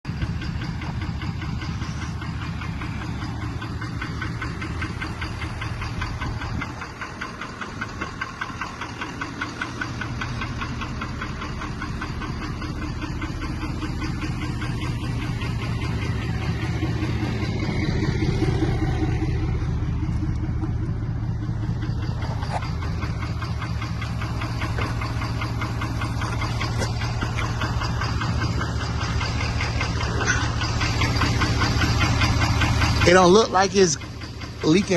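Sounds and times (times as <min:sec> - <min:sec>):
diesel engine idling with knock: 0:00.0 - 0:34.9.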